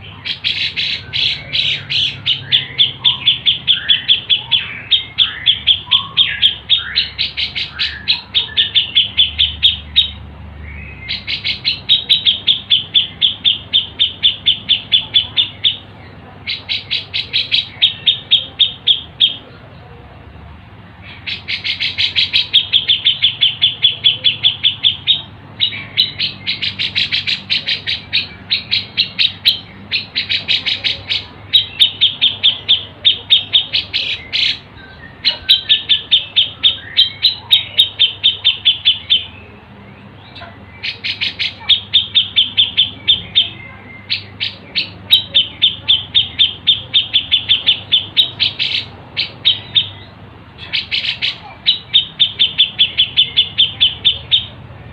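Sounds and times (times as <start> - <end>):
songbird rapid sharp chirps: 0.0 - 19.6, 20.9 - 54.8.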